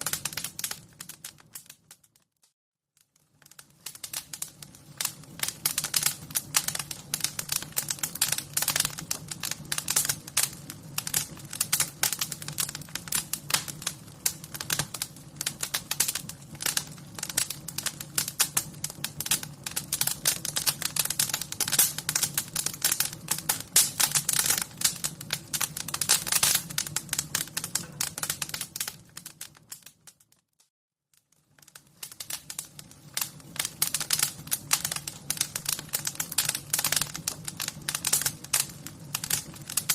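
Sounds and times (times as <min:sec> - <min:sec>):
wood fire crackling: 0:00.0 - 0:02.3, 0:03.0 - 0:30.4, 0:31.1 - 0:39.9.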